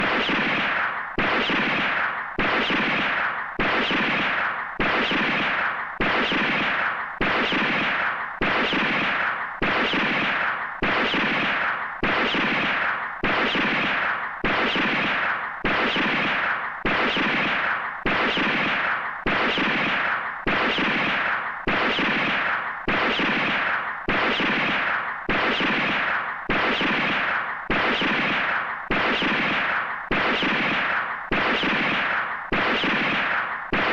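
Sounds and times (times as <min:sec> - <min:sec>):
handgun shots ringing: 0:00.0 - 0:33.9.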